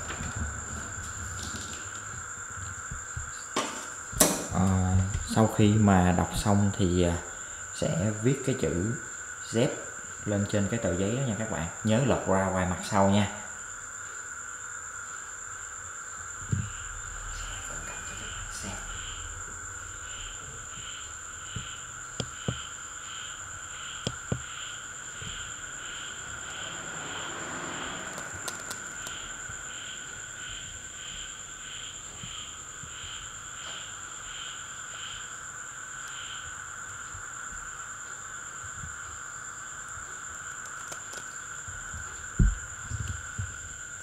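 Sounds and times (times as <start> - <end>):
crickets chirping: 0.0 - 44.0
high-pitched insect trill: 0.0 - 44.0.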